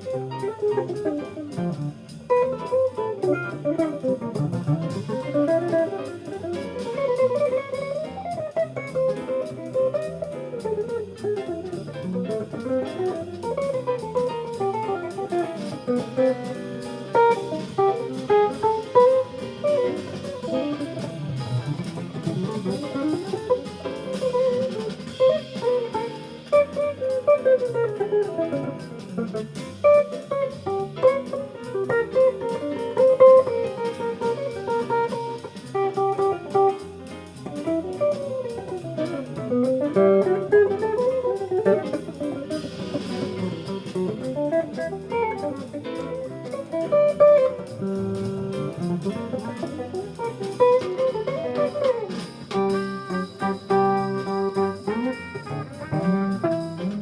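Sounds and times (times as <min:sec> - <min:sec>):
drum kit: 0:00.0 - 0:57.0
jazz guitar melody: 0:00.0 - 0:57.0.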